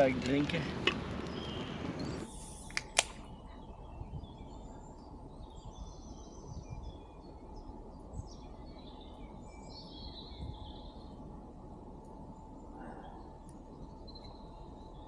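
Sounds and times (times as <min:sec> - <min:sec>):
birds chirping and trilling: 0:00.0 - 0:15.0
low outdoor rumble: 0:00.0 - 0:15.0.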